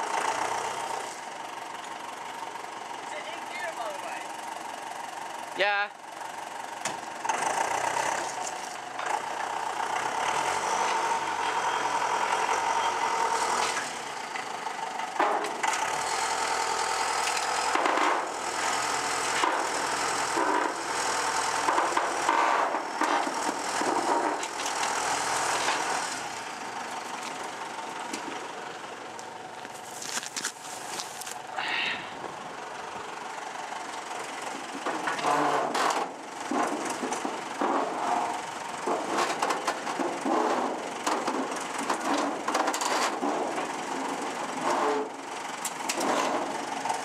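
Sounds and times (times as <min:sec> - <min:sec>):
tractor diesel engine revving: 0:00.0 - 0:47.0.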